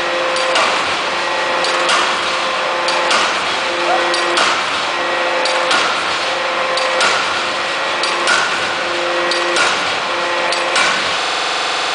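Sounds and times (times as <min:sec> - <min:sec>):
forging hammer blows: 0:00.0 - 0:11.3
machine hum: 0:00.0 - 0:11.9.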